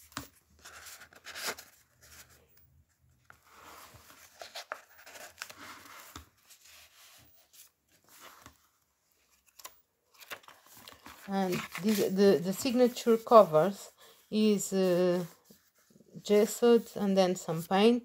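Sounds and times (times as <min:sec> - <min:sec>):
paper rustling: 0:00.0 - 0:16.0.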